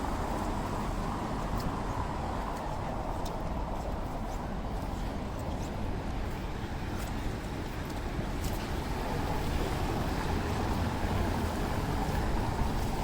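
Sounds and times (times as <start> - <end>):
low rumble of traffic: 0.0 - 13.0
wind on microphone: 0.0 - 13.0.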